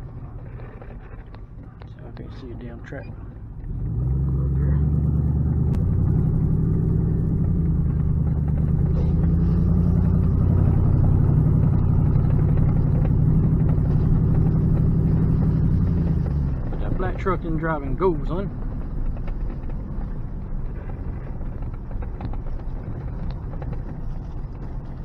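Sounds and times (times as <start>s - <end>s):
truck engine low hum: 0.0s - 25.0s.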